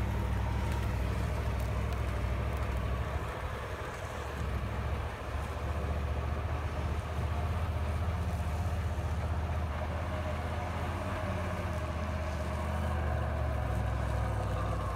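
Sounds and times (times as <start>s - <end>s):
truck engine deep drone: 0.0s - 14.9s.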